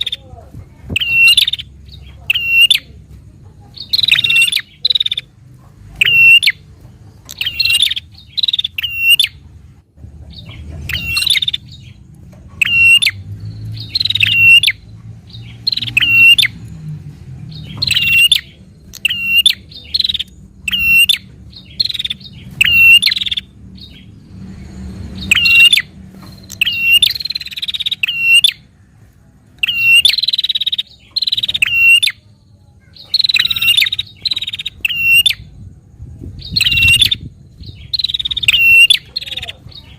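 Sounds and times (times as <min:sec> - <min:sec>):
bird chirping sharply: 0:00.9 - 0:03.0, 0:03.7 - 0:05.3, 0:06.0 - 0:09.4, 0:10.3 - 0:12.0, 0:12.6 - 0:28.8, 0:29.6 - 0:35.7, 0:36.3 - 0:39.9.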